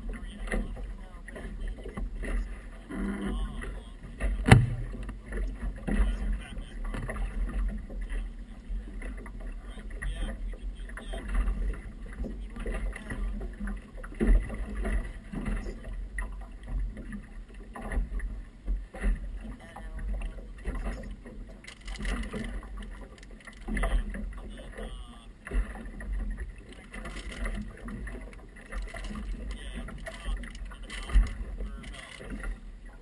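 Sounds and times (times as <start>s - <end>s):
water slapping against boat hull: 0.0s - 33.0s.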